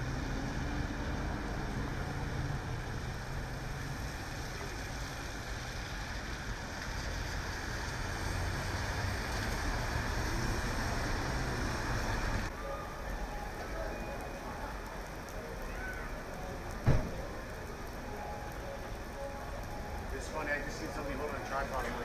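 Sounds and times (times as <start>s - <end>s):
tyres hissing on wet pavement: 0.2s - 22.0s.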